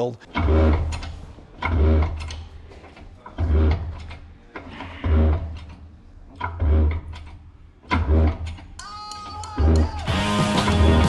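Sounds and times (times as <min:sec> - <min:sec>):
hydraulic hoist creaking and clunking: 0:00.2 - 0:11.0.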